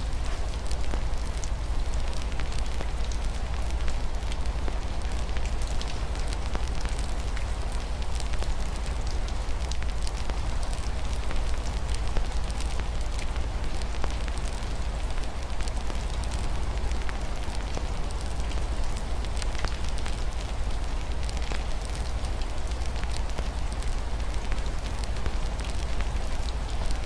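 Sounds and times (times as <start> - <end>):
constant low rumble: 0.0 - 27.0
steady rain: 0.0 - 27.0
wood fire crackling: 0.0 - 27.0.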